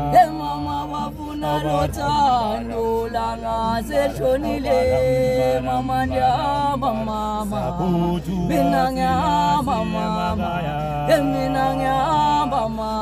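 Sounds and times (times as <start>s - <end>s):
voices singing a cappella chant: 0.0s - 13.0s.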